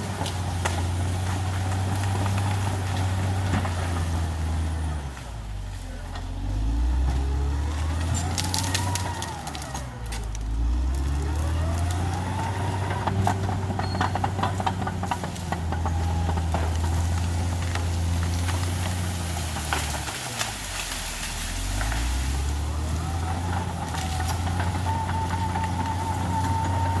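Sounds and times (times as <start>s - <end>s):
bulldozer diesel engine under load: 0.0s - 27.0s.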